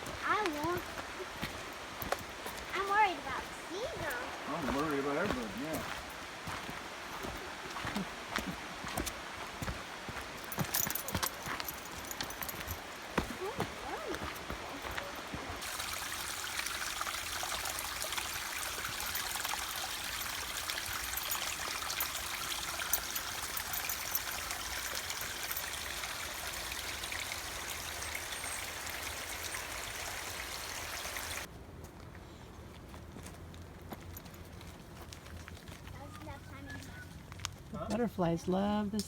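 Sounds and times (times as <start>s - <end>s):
stream water rushing: 0.0s - 31.5s.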